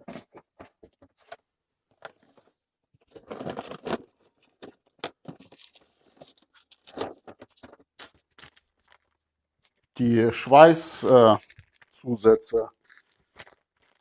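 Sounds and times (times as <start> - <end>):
plastic packaging rustling: 0.0 - 14.0.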